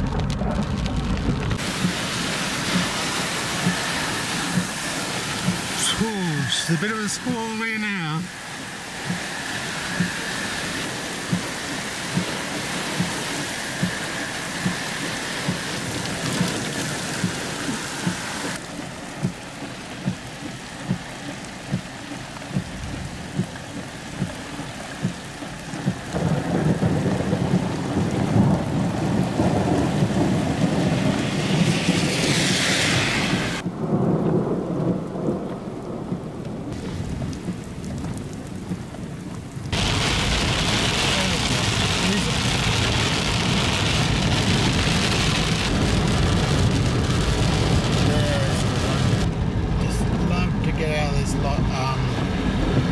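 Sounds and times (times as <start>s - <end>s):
rain and wind beating on a car: 0.0s - 52.9s.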